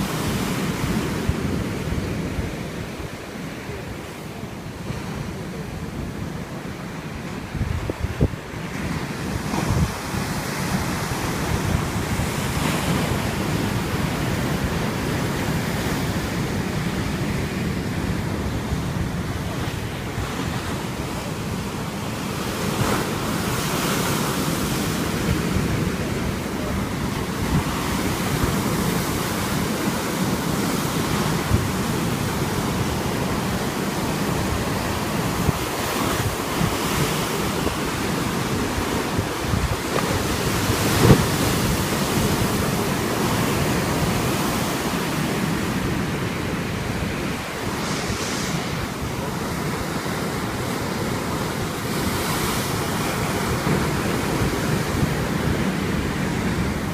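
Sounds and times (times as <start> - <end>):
sea waves breaking on shore: 0.0 - 56.9
wind buffeting microphone: 0.0 - 56.9.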